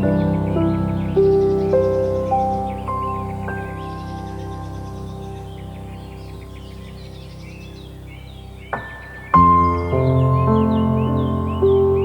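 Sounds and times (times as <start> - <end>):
faint bird chirps: 0.0 - 12.0
soft new-age music: 0.0 - 12.0.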